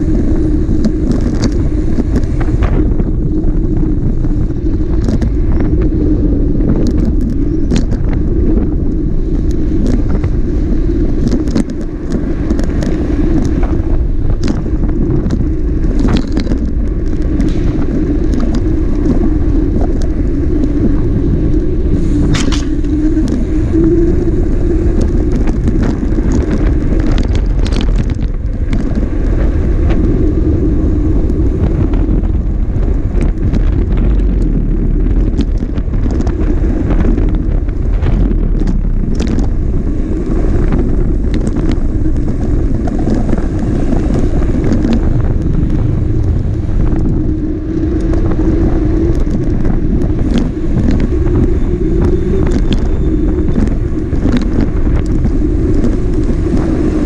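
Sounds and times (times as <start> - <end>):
motor vehicle running: 0.0 - 57.0
wind buffeting microphone: 0.0 - 57.0.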